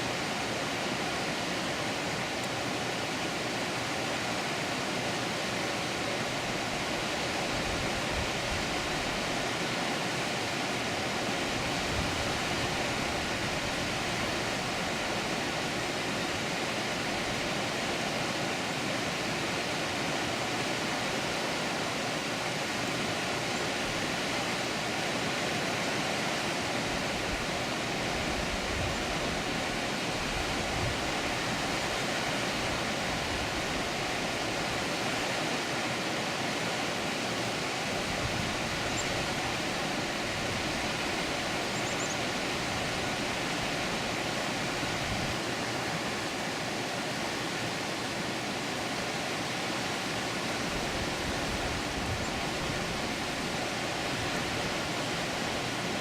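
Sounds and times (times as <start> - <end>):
water rushing over dam: 0.0 - 56.0.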